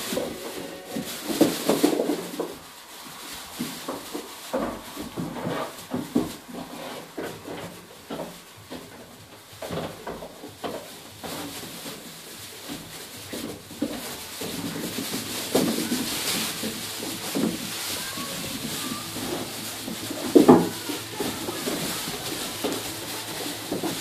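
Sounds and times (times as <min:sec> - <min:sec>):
hooves knocking on wooden boards: 0:00.0 - 0:24.0
straw rustling underfoot: 0:00.0 - 0:24.0.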